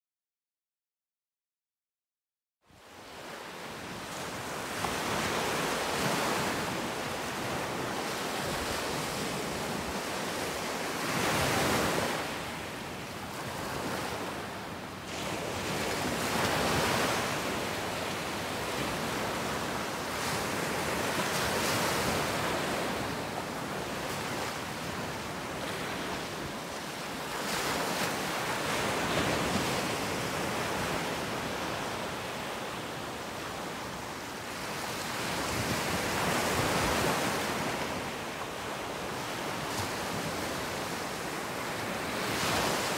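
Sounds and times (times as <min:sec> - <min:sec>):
ocean surf breaking: 0:04.1 - 0:42.9.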